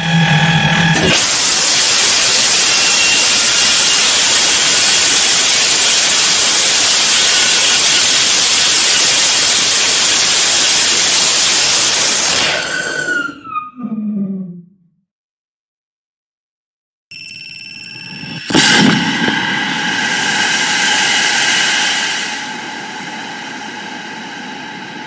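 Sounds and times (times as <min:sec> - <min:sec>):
rocket engine exhaust roaring: 0:00.0 - 0:13.3, 0:17.9 - 0:25.0.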